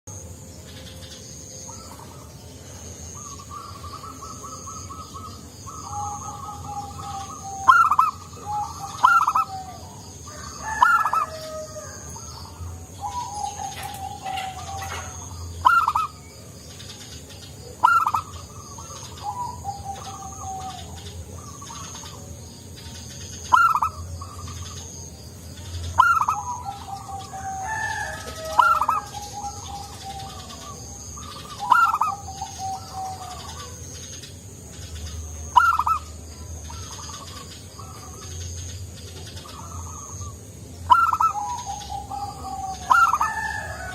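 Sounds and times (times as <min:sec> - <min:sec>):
dove cooing song: 0:00.1 - 0:43.9.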